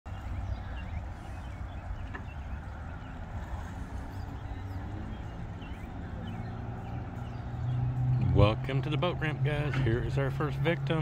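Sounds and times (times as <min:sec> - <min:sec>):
vehicle engines idling: 0:00.1 - 0:11.0.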